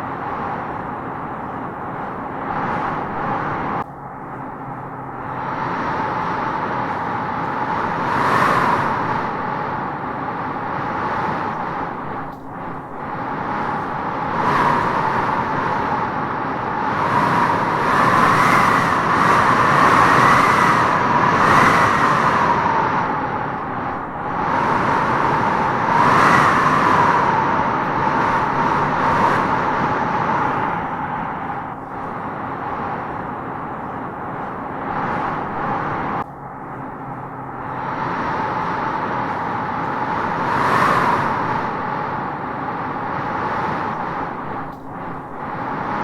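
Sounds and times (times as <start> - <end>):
howling wind through trees: 0.0 - 46.0.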